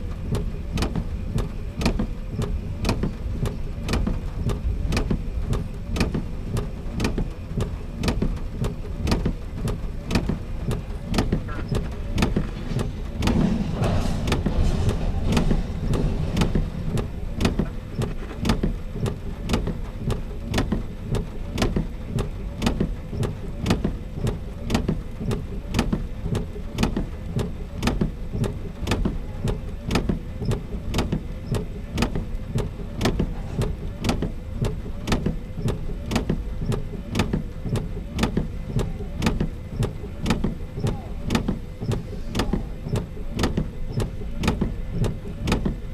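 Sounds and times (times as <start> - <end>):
steady low rumble: 0.0 - 45.9
regular clicking: 0.4 - 45.8.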